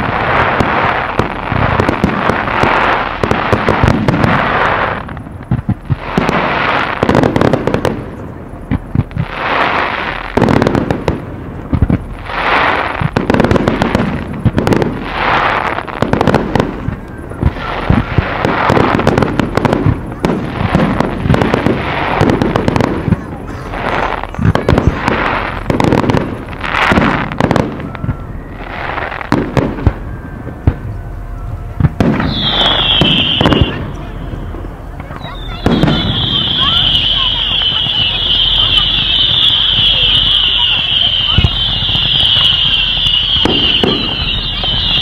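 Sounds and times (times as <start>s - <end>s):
crackling hiss of fireworks: 0.0s - 45.0s
firework bangs: 0.0s - 45.0s.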